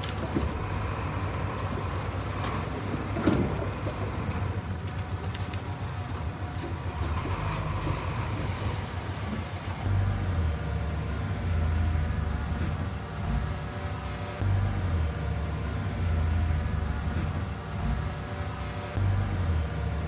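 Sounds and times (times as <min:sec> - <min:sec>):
diesel engine low rumble: 0:00.0 - 0:20.0.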